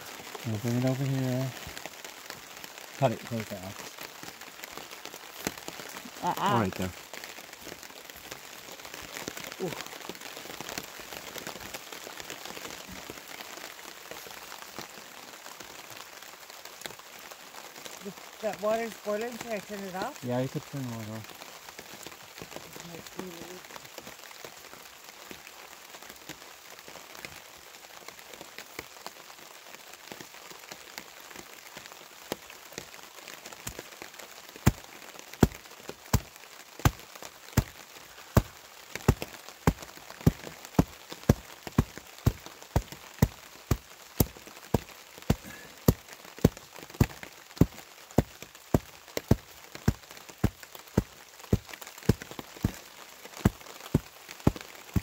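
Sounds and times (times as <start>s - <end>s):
faint hiss: 0.0s - 16.0s, 16.7s - 25.6s, 31.6s - 55.0s.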